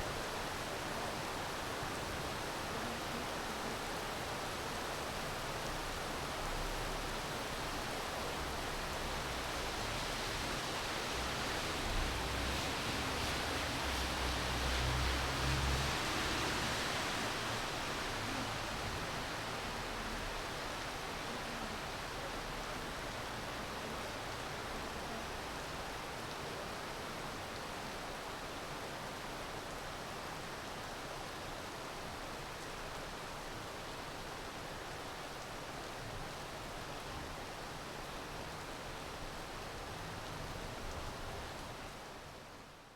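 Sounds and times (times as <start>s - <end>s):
rain falling: 0.1s - 42.9s.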